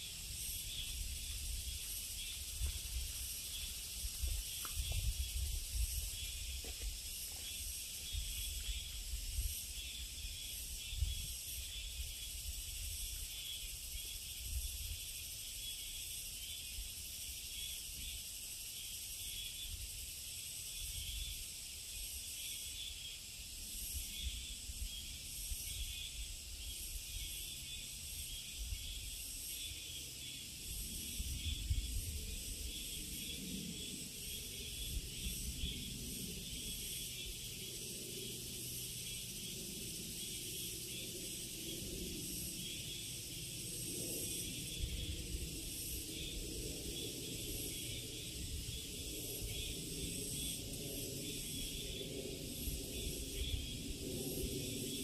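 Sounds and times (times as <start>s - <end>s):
shrill insect chorus: 0.0s - 55.0s.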